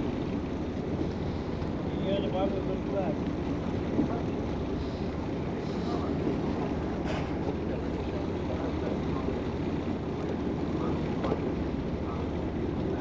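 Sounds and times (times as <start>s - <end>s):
sea washing around boat: 0.0s - 13.0s.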